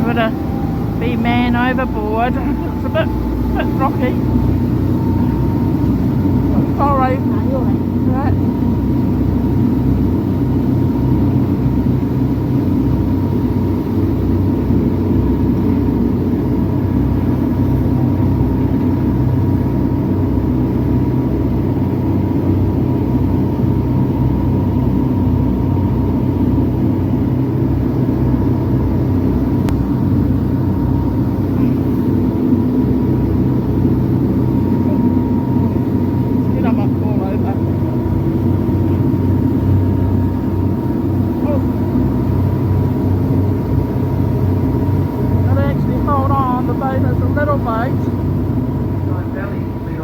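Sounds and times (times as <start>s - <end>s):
boat engines droning: 0.0s - 50.0s
faint high hum: 0.0s - 50.0s.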